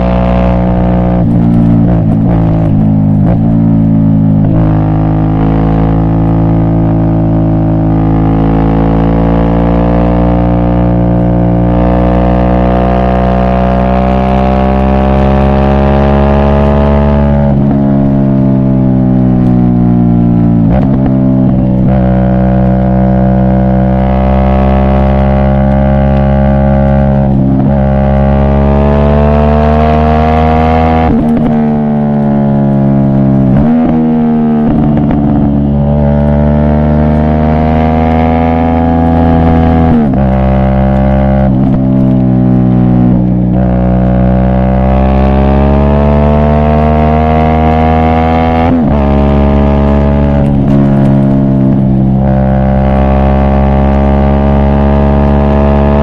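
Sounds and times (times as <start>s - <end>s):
motorcycle engine under load: 0.0s - 56.0s.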